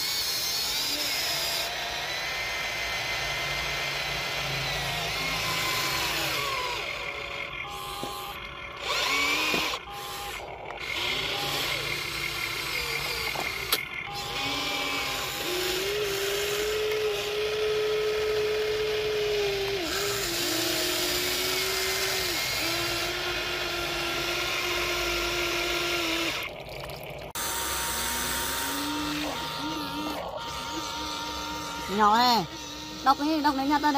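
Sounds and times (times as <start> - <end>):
small electric motors whining: 0.0 - 33.9.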